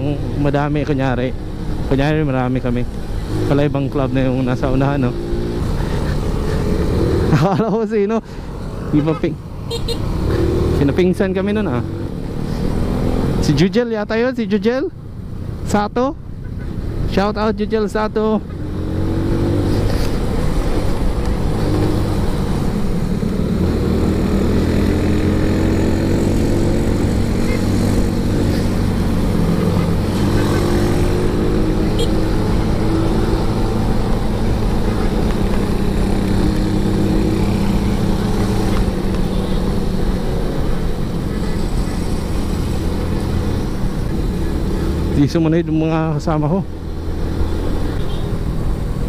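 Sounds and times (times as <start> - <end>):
wind and road noise: 0.0 - 49.0.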